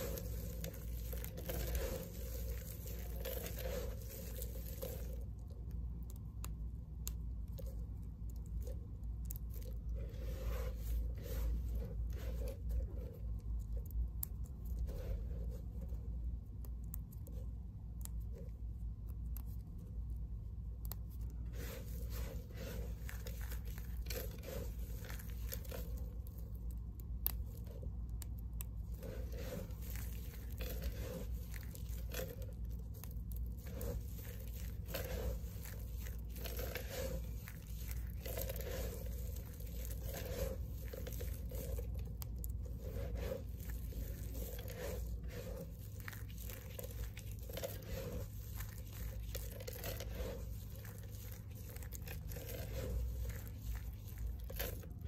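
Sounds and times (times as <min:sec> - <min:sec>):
soap pieces crackling and crunching: 0:00.0 - 0:10.2, 0:20.6 - 0:55.0.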